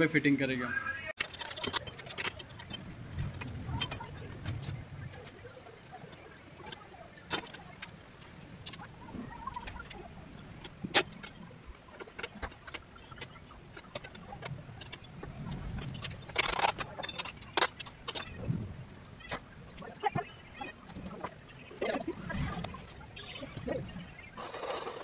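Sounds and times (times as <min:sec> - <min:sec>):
tools and metal parts clinking: 0:01.2 - 0:05.4, 0:06.1 - 0:08.9, 0:10.6 - 0:23.7.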